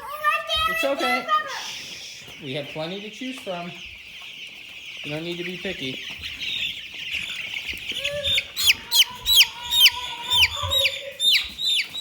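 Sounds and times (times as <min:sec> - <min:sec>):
chicks peeping in a crowd: 0:00.0 - 0:12.0
chick giving loud falling peeps: 0:00.5 - 0:12.0.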